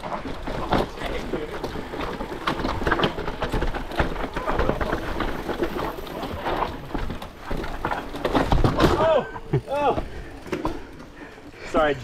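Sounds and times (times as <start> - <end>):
bike knocking and rattling over rocks: 0.0 - 12.0.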